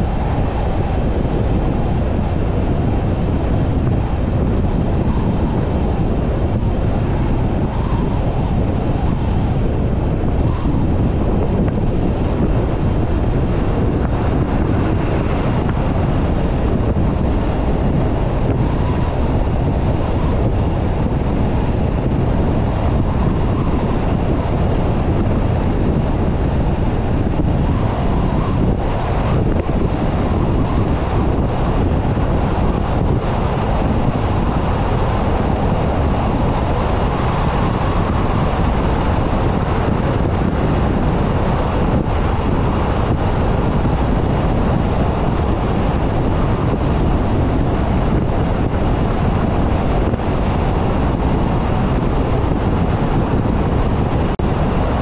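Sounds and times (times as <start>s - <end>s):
car road noise: 0.0s - 55.0s
wind on microphone: 0.0s - 55.0s.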